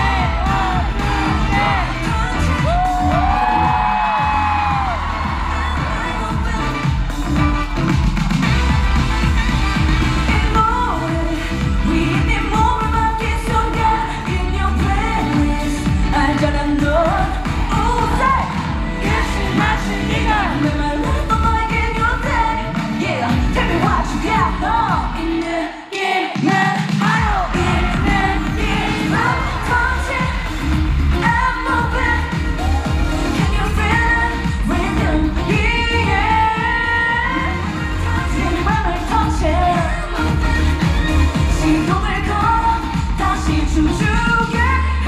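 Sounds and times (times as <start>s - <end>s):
woman singing into a microphone: 0.0s - 7.2s, 10.3s - 45.0s
pop backing track with beat: 0.0s - 45.0s.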